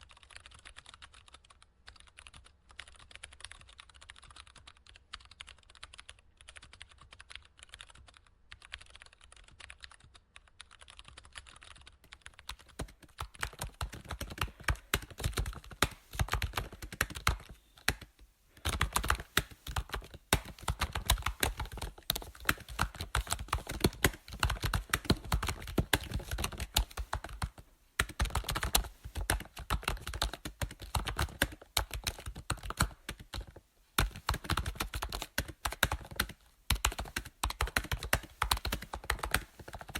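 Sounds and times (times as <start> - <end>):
keyboard typing: 0.1 - 39.9.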